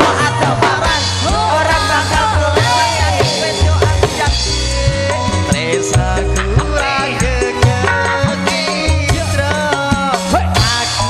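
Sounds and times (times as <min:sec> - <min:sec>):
bass line: 0:00.0 - 0:11.0
drum strokes: 0:00.0 - 0:11.0
gamelan instruments: 0:00.0 - 0:11.0
keyboard: 0:00.0 - 0:11.0
person singing: 0:00.0 - 0:11.0.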